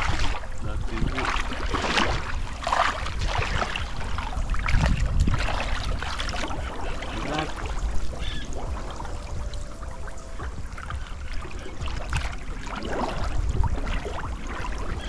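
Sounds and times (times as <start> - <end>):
net dragged through water: 0.0 - 9.5, 10.6 - 15.0
water splashing around legs: 0.0 - 15.0.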